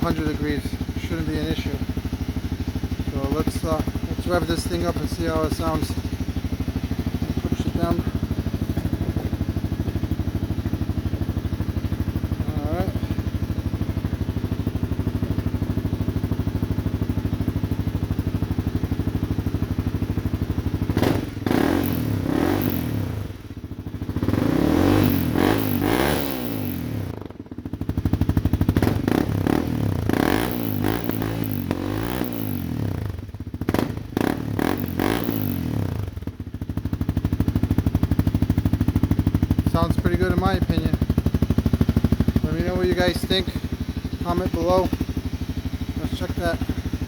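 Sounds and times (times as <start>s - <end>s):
motorcycle engine idling and revving: 0.0s - 47.0s.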